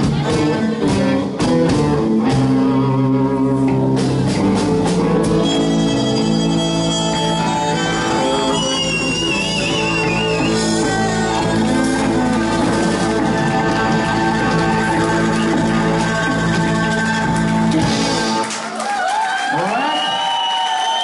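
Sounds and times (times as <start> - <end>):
live rock band playing: 0.0 - 18.7.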